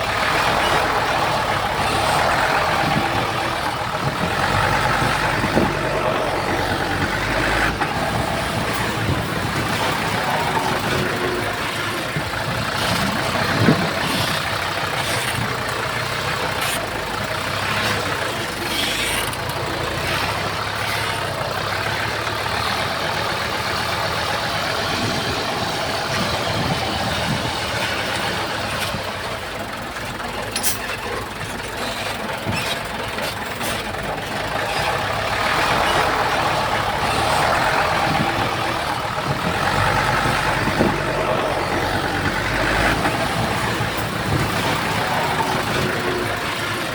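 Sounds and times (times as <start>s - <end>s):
diesel machinery running: 0.0s - 46.9s.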